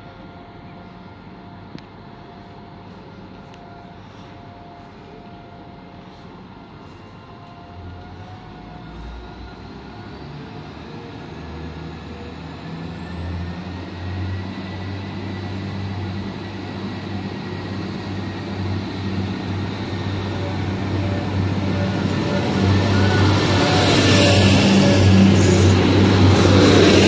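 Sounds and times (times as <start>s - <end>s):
train engines humming low: 0.0s - 27.0s.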